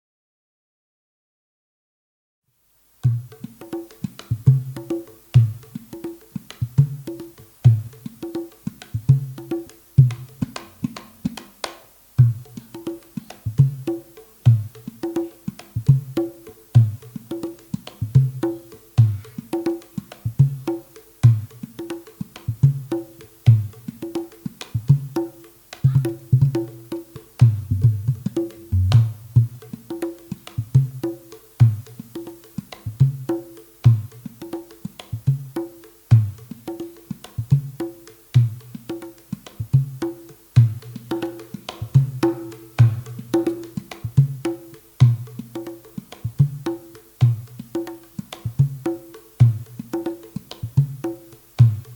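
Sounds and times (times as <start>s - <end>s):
hand drum rhythm: 3.0s - 51.9s.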